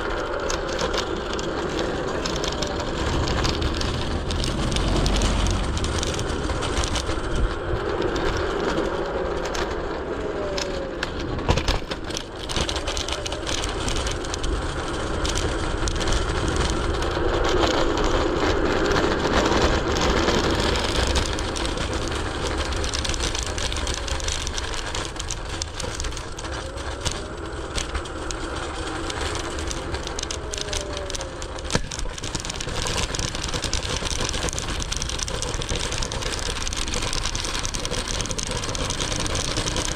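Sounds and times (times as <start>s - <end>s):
scooter wheels rumbling on pavement: 0.0s - 39.9s.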